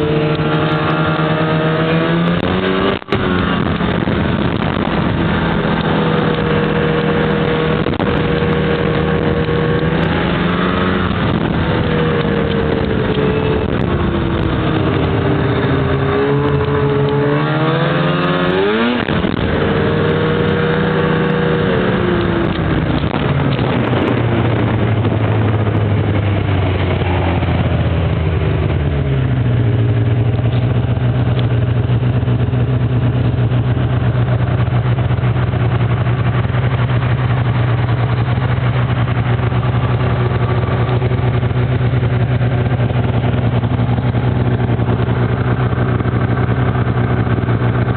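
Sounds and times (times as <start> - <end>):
snowmobile engine running: 0.0 - 47.9.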